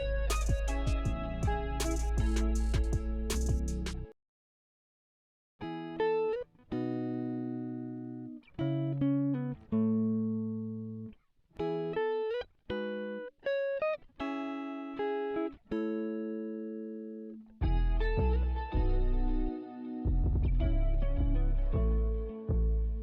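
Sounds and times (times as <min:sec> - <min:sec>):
plucked guitar music: 0:00.0 - 0:04.1, 0:05.6 - 0:23.0.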